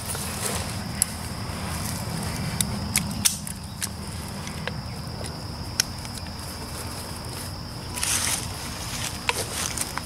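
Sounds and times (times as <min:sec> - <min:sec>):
buckles clicking and gear rattling: 0:00.0 - 0:10.0.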